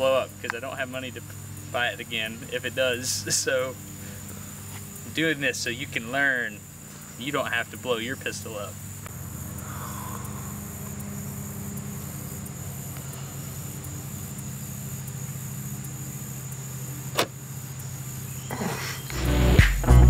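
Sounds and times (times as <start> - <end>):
engine idling hum: 0.0 - 20.0.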